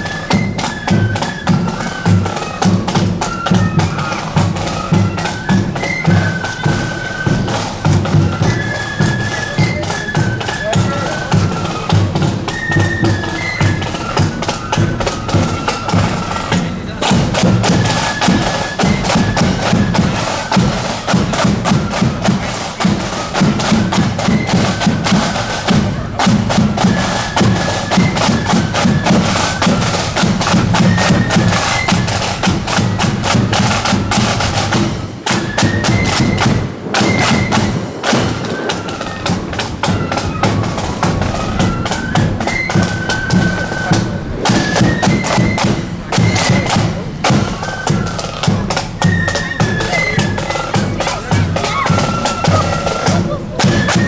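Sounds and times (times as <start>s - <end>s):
flute melody: 0.0s - 54.0s
rapid snare drum beats: 0.0s - 54.0s.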